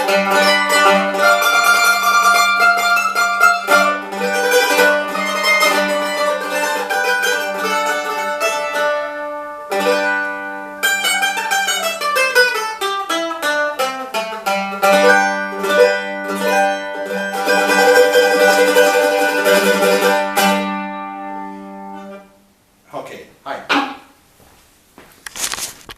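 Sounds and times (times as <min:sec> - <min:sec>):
mandolin playing: 0:00.0 - 0:22.5, 0:23.7 - 0:24.2.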